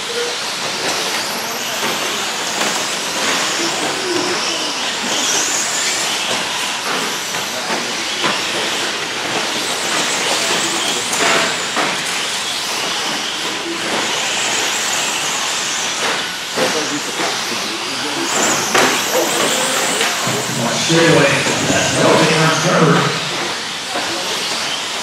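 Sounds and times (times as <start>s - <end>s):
rc trucks racing on dirt: 0.0s - 21.5s, 22.1s - 25.0s.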